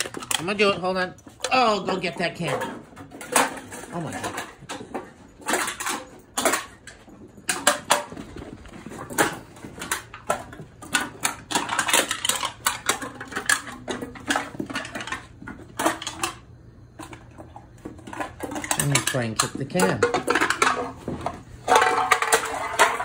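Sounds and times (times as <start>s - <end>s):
aluminum can clinking and clattering: 0.0s - 23.0s.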